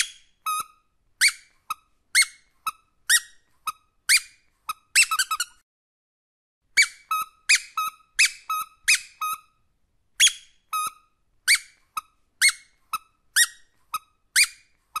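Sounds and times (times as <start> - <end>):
squeaky dog toy squeaking: 0.0 - 5.6, 6.7 - 9.6, 10.2 - 15.0.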